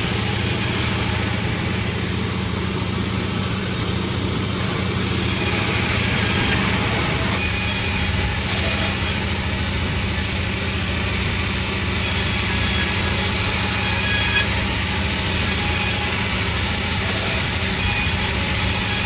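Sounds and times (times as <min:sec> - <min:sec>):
sawmill machinery hum: 0:00.0 - 0:19.0.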